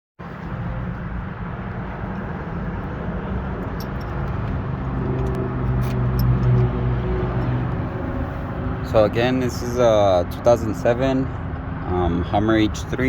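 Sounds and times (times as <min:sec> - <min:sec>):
vehicle engine rumbling: 0:00.2 - 0:13.0.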